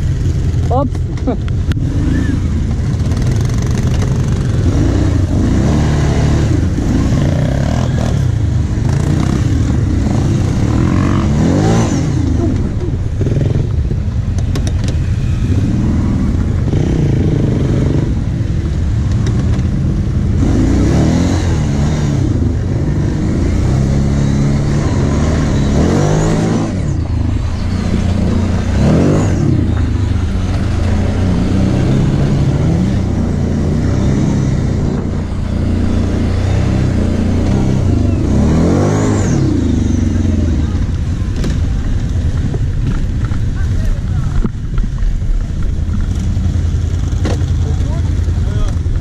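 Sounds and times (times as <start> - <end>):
quad engine revving: 0.0 - 49.0.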